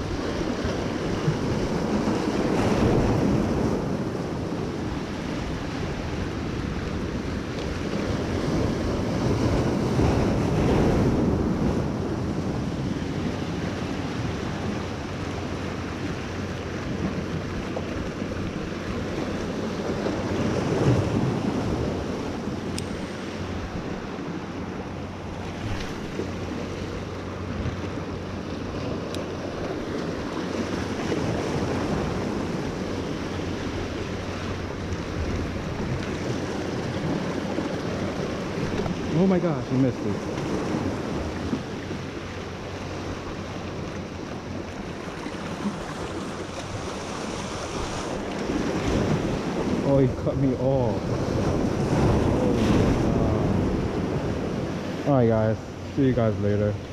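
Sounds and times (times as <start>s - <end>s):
surf breaking over rocks: 0.0s - 56.9s
wind buffeting microphone: 0.0s - 56.9s.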